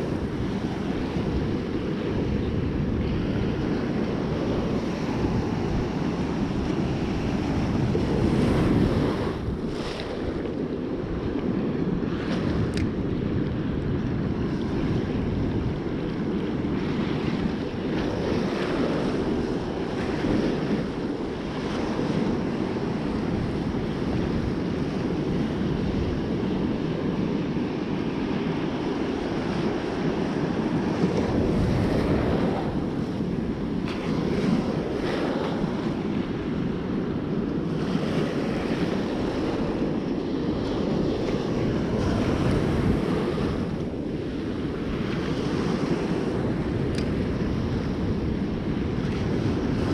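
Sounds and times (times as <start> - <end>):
surf breaking on beach: 0.0 - 49.9
wind buffeting microphone: 0.0 - 49.9.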